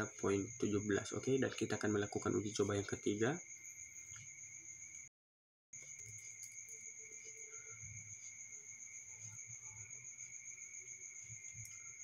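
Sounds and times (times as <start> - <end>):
crickets chirring: 0.0 - 5.1, 5.8 - 12.0.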